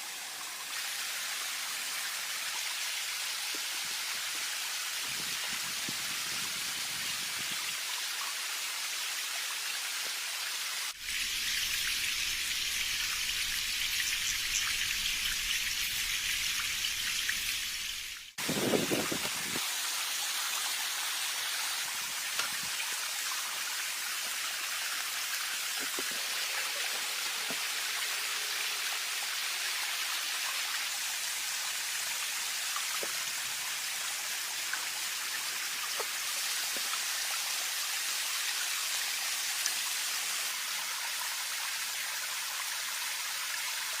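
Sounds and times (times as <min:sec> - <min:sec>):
steady rain hiss: 0:00.0 - 0:44.0.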